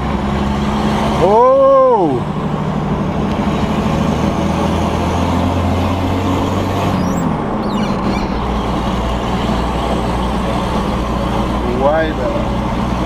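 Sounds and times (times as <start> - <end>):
diesel engine running loud: 0.0 - 13.0.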